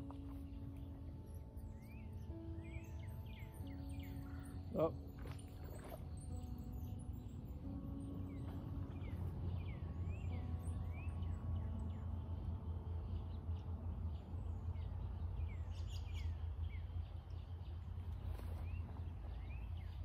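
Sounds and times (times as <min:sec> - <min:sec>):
bird chirping: 0:00.0 - 0:20.0
steady low rumble: 0:00.0 - 0:20.0.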